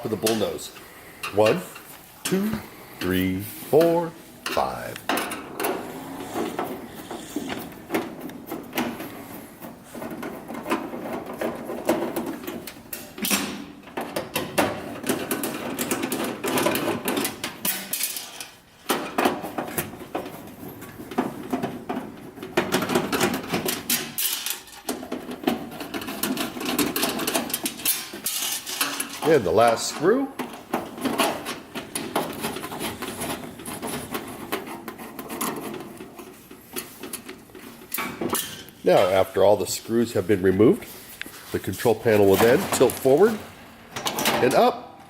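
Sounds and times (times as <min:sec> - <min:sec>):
metal clicks and rattles: 0:04.4 - 0:38.8, 0:42.1 - 0:44.6.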